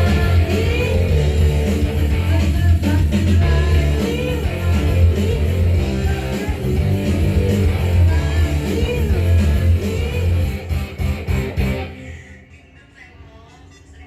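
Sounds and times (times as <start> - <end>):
guitar-led rock-pop band music: 0.0 - 12.2.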